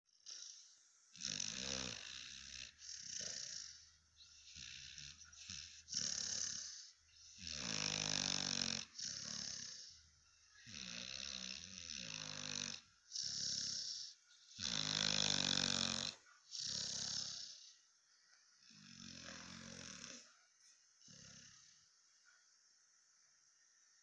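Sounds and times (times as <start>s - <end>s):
dog snoring: 0.1s - 17.8s, 18.6s - 20.4s, 21.0s - 21.9s.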